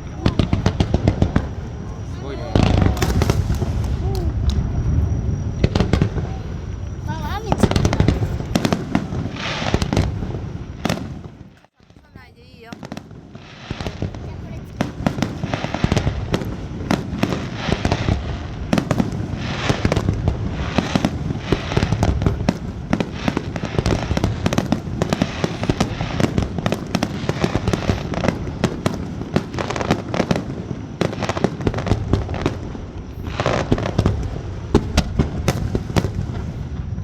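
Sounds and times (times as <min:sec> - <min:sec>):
fireworks booms and cracks: 0:00.0 - 0:37.0.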